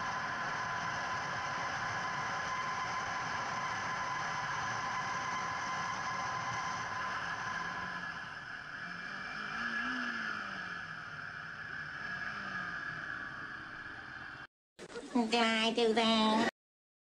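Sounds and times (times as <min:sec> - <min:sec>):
muffled motorcycle engine drone: 0:00.0 - 0:14.5.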